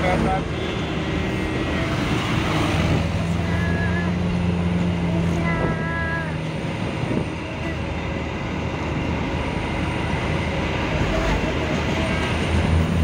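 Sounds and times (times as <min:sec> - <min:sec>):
road and wind noise: 0:00.0 - 0:13.0
vehicle engine drone: 0:00.0 - 0:13.0.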